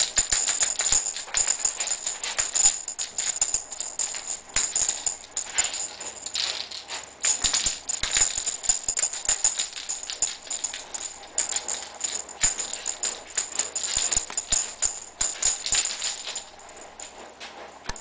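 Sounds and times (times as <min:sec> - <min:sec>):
tambourine-like jingling: 0:00.0 - 0:17.1.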